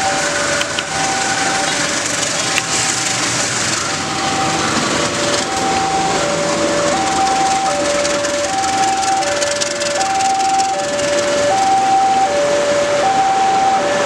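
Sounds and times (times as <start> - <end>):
level crossing alarm tones: 0.0 - 14.0
loud steady rushing noise: 0.0 - 14.0.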